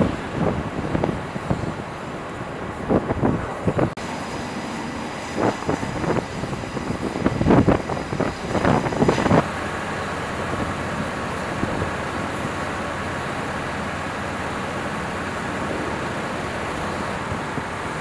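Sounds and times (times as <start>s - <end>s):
steady mechanical drone: 0.0s - 18.0s
wind buffeting microphone: 0.0s - 18.0s.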